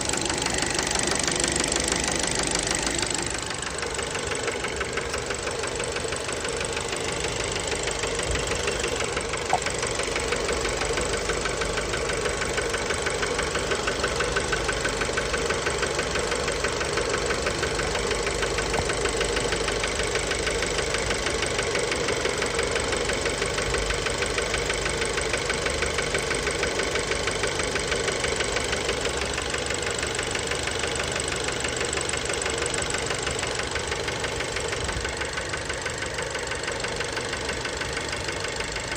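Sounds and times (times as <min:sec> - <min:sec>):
car engine knocking rattle: 0:00.0 - 0:38.9.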